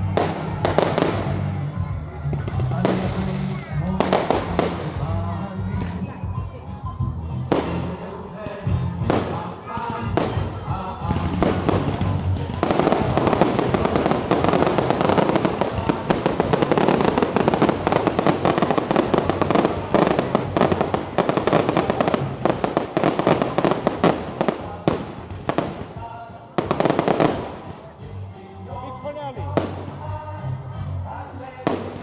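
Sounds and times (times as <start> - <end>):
fireworks bangs and crackles: 0.0 - 6.2, 7.4 - 28.0, 29.5 - 30.1, 31.6 - 32.0
music: 0.0 - 32.0.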